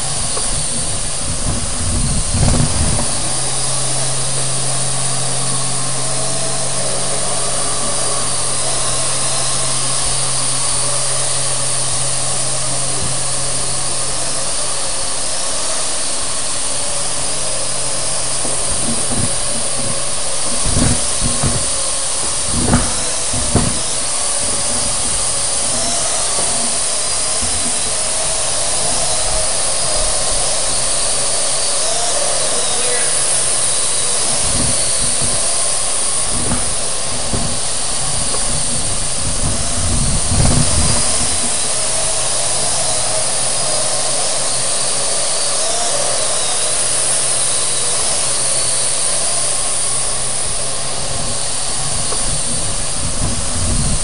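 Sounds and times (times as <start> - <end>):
drone rotors whirring: 0.0 - 54.0.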